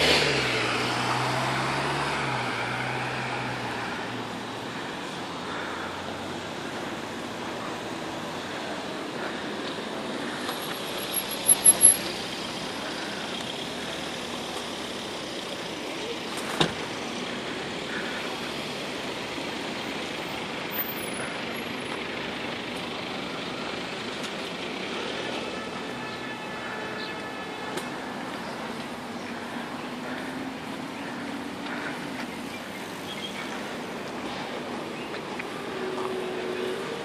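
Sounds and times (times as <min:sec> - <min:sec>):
street traffic noise: 0:00.0 - 0:37.0.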